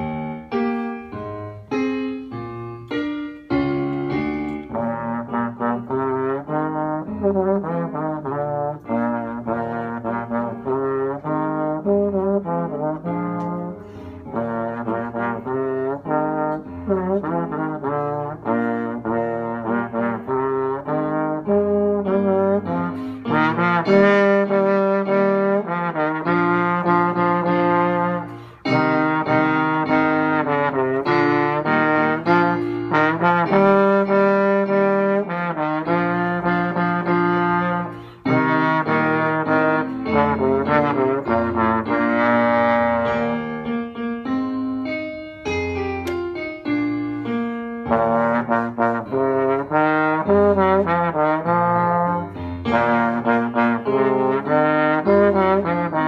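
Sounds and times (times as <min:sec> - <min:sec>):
slide trombone melody: 0:00.0 - 0:56.0.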